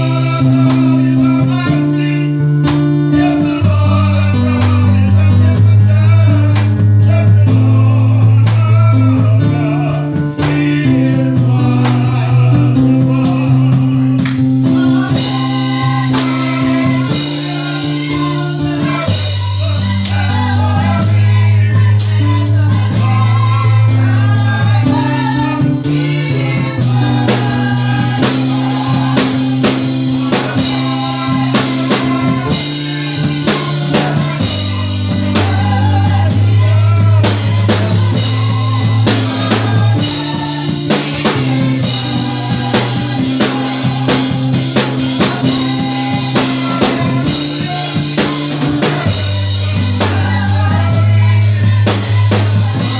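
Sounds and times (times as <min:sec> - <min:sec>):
gospel choir singing: 0:00.0 - 0:52.9
live band with drums: 0:00.0 - 0:52.9
sustained bass line: 0:00.0 - 0:52.9.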